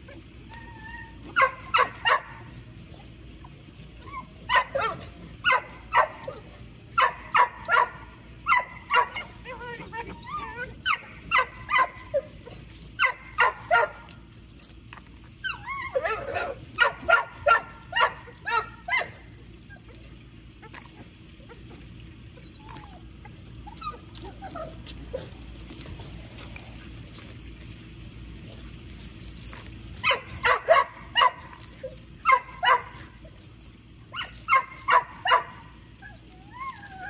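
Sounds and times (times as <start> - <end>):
dog yipping and whining: 0.0 - 2.5, 3.4 - 26.7, 29.5 - 37.0.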